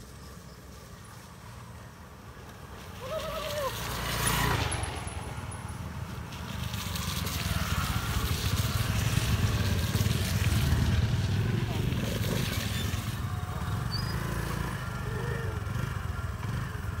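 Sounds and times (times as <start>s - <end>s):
motor scooter engines passing: 0.0s - 17.0s.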